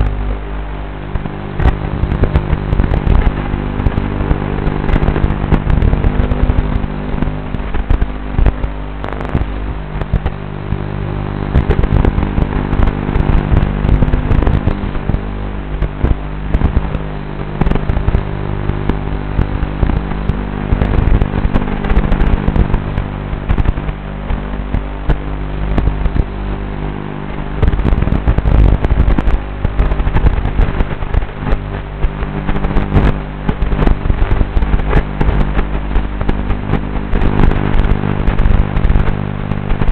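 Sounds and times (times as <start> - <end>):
crackles: 0.0 - 39.9
drone propellers buzzing: 0.0 - 39.9.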